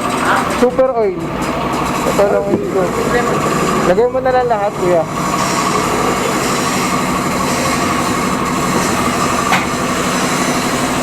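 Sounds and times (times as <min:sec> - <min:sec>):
mechanical drone with whine: 0:01.9 - 0:11.0.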